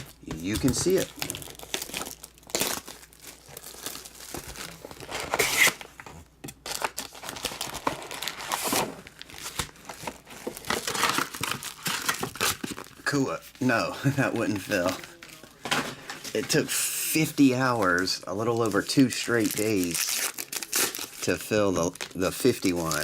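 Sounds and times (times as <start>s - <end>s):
plastic wrapping tearing: 0.0s - 13.2s, 17.8s - 23.0s
plastic wrapping crinkling: 0.0s - 23.0s.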